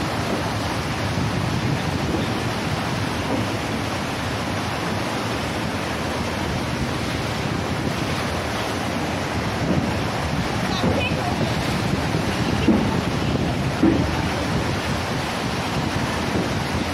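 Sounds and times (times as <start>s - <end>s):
sea water churning and rushing: 0.0s - 16.9s
wind buffeting microphone: 0.0s - 16.9s.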